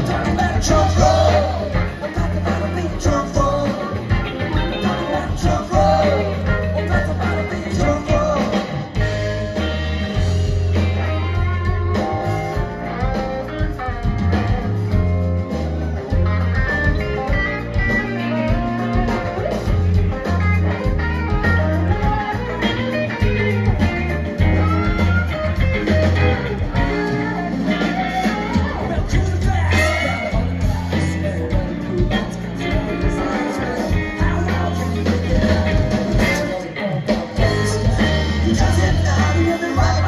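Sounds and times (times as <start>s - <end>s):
drum kit: 0.0s - 40.0s
electric bass line: 0.0s - 40.0s
electric guitars: 0.0s - 40.0s.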